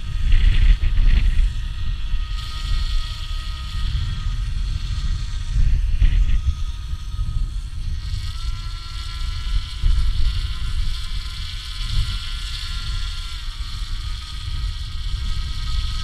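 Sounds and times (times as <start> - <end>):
motor and propeller whine: 0.0 - 16.0
wind buffeting microphone: 0.0 - 16.0.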